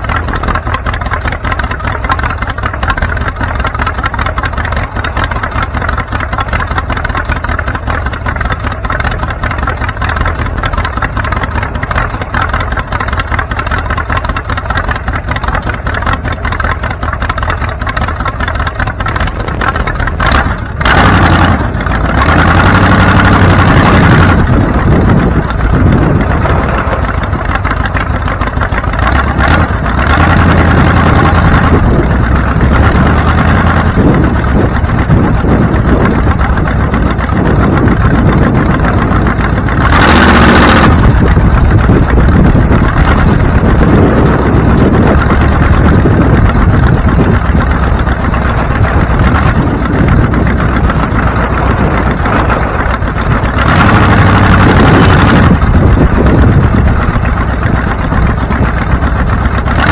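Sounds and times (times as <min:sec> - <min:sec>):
car engine: 0:00.0 - 0:59.9
road noise: 0:00.0 - 0:59.9.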